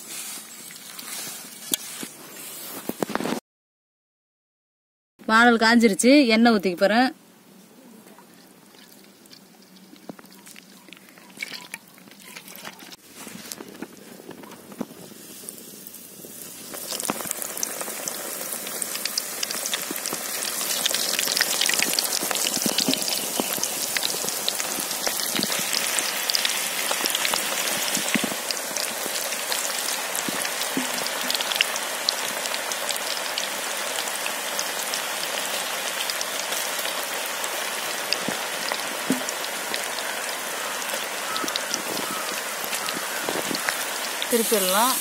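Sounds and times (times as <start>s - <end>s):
batter deep-frying in oil: 0.0s - 2.2s, 8.4s - 45.0s.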